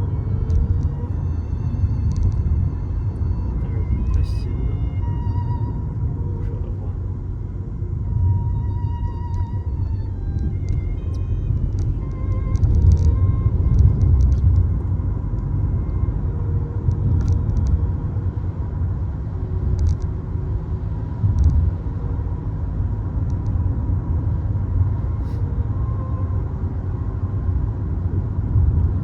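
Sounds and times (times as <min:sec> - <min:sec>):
road and engine rumble in car: 0:00.0 - 0:29.0.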